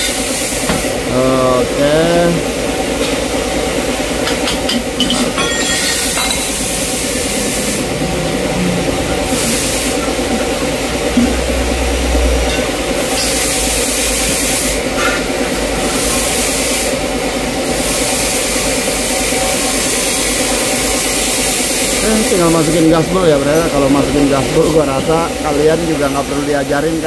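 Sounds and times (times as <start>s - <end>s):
mechanical hum with hiss: 0.0s - 27.0s.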